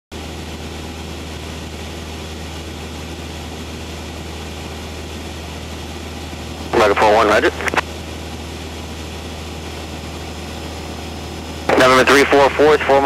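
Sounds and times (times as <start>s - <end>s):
light aircraft engine droning in cabin: 0.1s - 13.0s.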